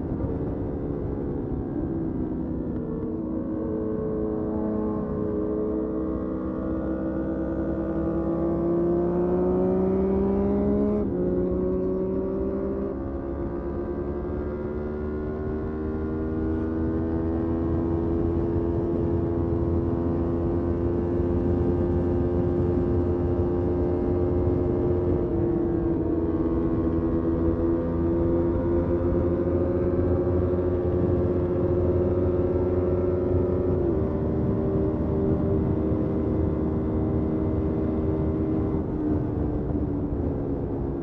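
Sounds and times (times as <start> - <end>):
motorcycle engine accelerating: 0.1 - 41.0.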